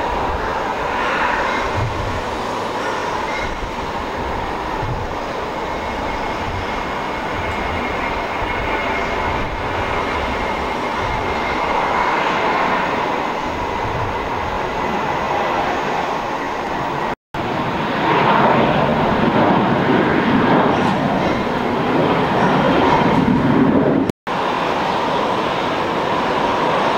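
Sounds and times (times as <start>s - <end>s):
jet engines at takeoff: 0.0s - 26.9s.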